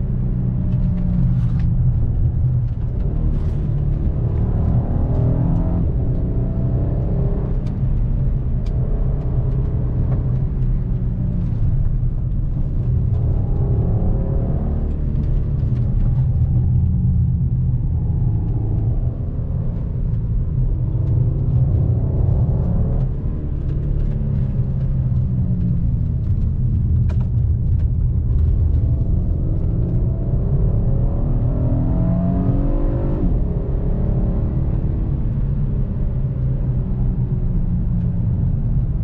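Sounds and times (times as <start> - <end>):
car engine revving while driving: 0.0 - 39.0
low road rumble: 0.0 - 39.0.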